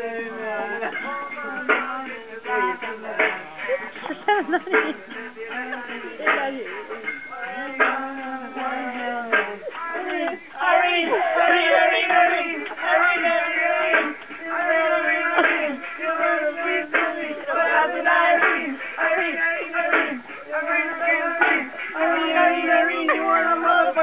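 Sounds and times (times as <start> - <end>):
young men singing together: 0.0 - 24.0.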